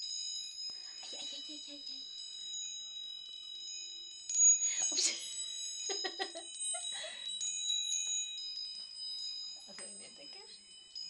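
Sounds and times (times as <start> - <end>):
wind chime tinkling: 0.0 - 11.0.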